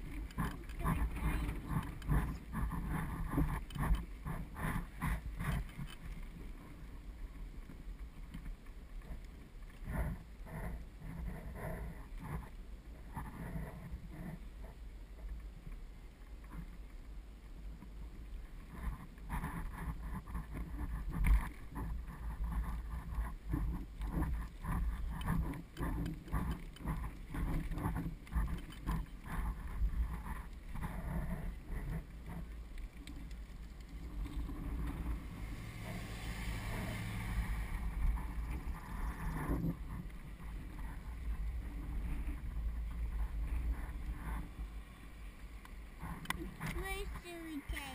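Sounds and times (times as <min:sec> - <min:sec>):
wind on microphone: 0:00.0 - 0:15.7, 0:17.6 - 0:47.9
wheels rumbling on asphalt: 0:00.0 - 0:47.9.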